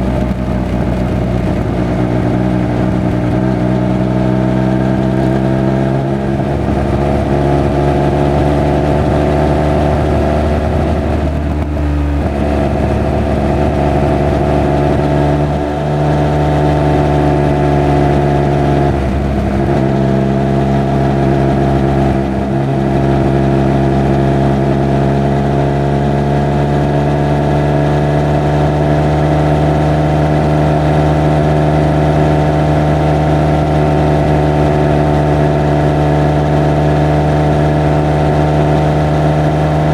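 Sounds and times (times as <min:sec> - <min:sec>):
motorcycle engine and exhaust running: 0:00.0 - 0:39.9.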